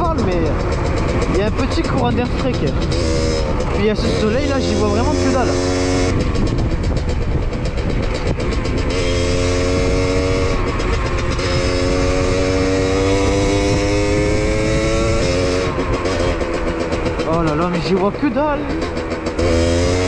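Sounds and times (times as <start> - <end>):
wind rush on microphone: 0.0 - 18.2
two-stroke motorcycle engine: 0.0 - 20.0.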